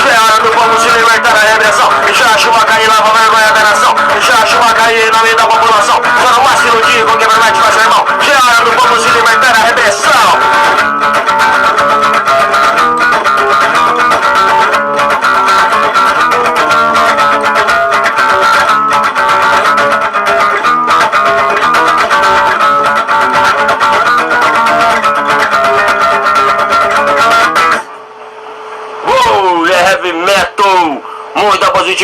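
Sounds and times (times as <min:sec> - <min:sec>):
instrumental guitar music: 0:00.0 - 0:29.0.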